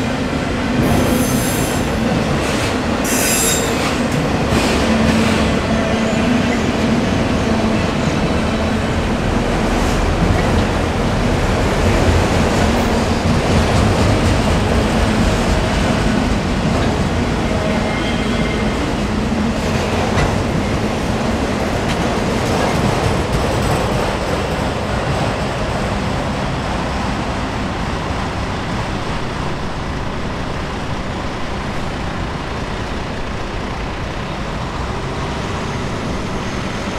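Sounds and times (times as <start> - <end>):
freight train rumbling and rattling: 0.0 - 36.9.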